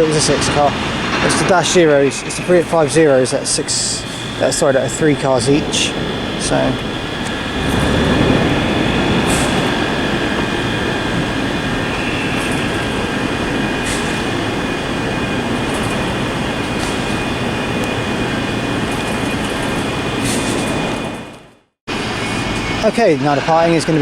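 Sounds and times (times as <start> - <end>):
electric train rumble and hum: 0.0 - 24.0
high-pitched whine tones: 0.0 - 24.0.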